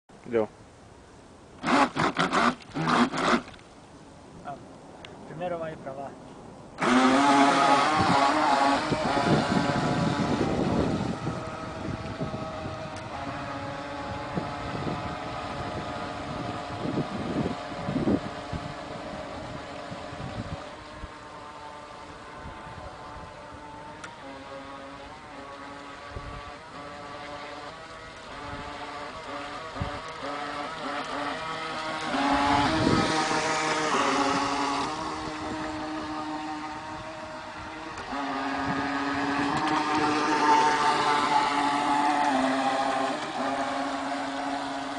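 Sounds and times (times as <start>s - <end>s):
electric motor whining: 1.6s - 3.6s, 6.8s - 44.9s
wind noise on microphone: 4.2s - 44.9s.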